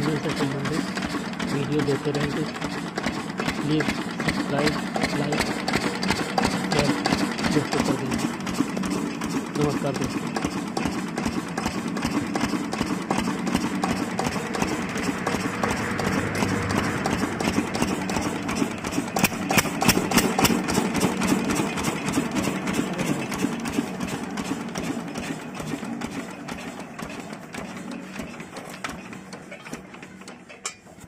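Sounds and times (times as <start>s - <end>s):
diesel engine knocking steadily: 0.0s - 31.0s.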